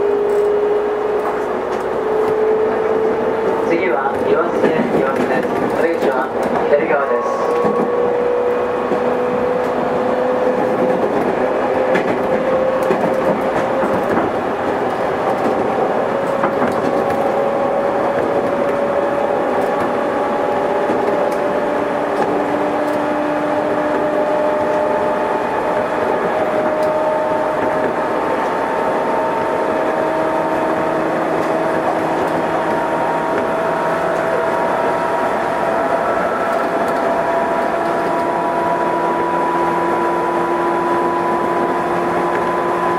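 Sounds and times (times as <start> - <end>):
wheels rumbling on rails: 0.0 - 42.9
electric train motor whine: 7.4 - 42.9.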